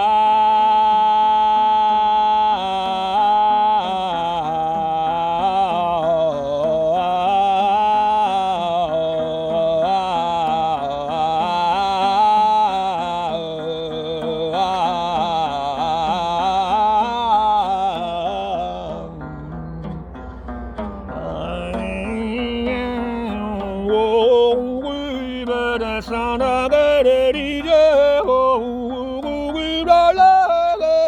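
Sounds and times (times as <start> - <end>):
ornamented bending melody: 2.6 - 31.0.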